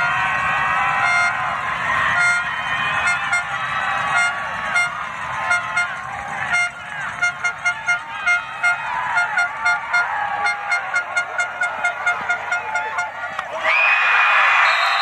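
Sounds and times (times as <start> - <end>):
short horn blasts: 0.0 - 13.3
crowd shouting: 0.0 - 15.0.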